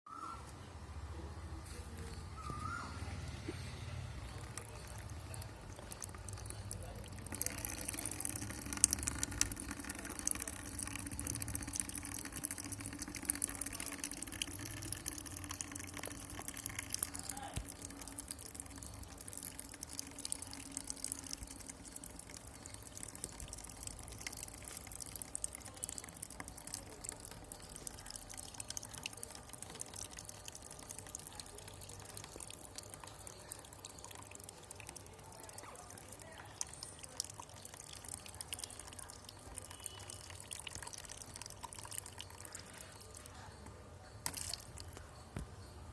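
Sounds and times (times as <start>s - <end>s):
water trickling and dripping: 1.7s - 45.9s.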